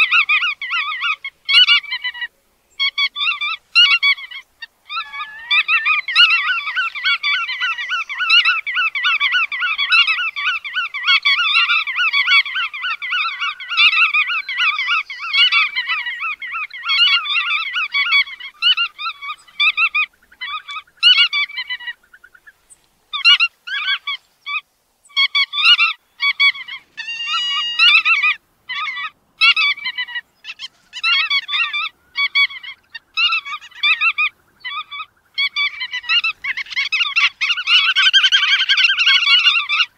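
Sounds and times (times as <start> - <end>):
godwits calling: 0.0 - 39.9.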